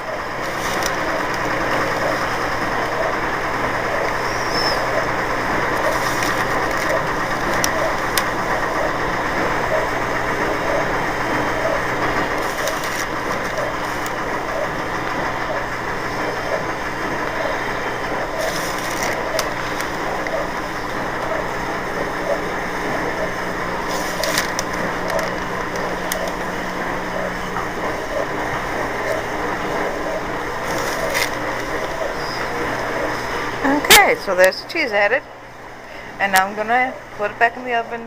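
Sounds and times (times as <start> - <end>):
mechanical hum and whir: 0.0 - 38.0.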